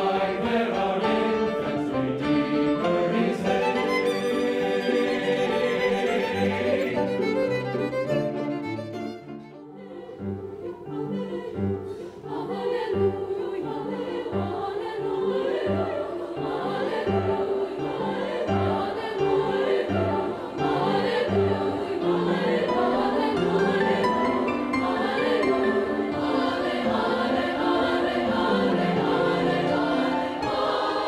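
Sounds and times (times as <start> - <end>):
choir singing with accompaniment: 0.0 - 31.0.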